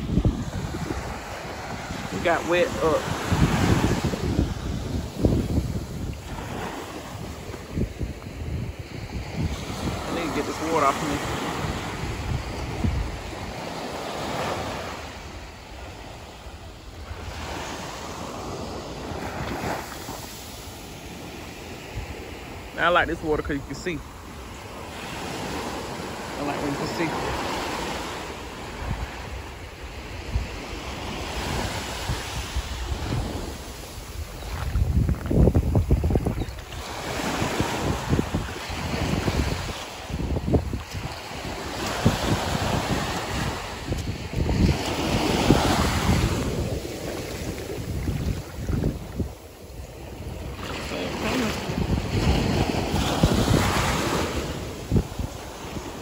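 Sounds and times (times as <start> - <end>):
small waves breaking on sand: 0.0 - 56.0
wind buffeting microphone: 0.0 - 56.0.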